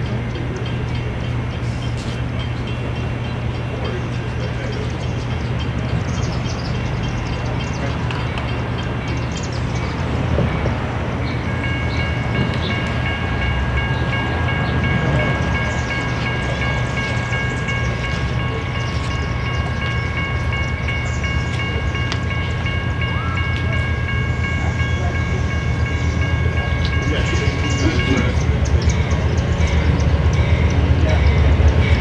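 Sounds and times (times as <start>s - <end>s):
crossing warning bell ringing: 0.0s - 32.0s
train rumbling: 0.0s - 32.0s.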